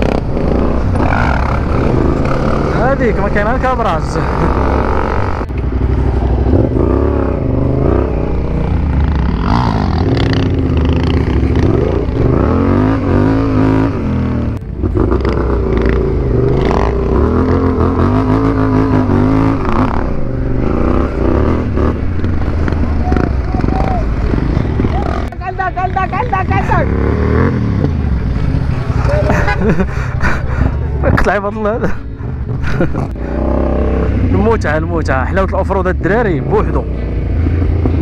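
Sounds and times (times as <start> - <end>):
motorcycle engine revving: 0.0 - 29.9, 30.6 - 38.0.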